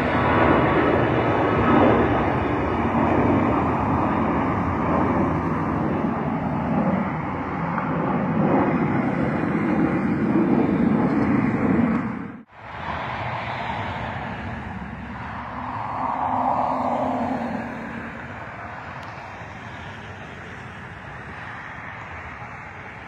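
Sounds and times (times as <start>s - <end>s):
jet engines passing overhead: 0.0s - 23.0s.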